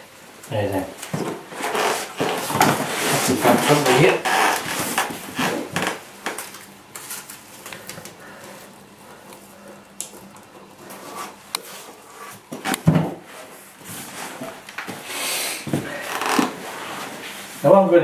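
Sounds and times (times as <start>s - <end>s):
masking tape rustling: 1.0s - 15.0s, 15.6s - 17.7s.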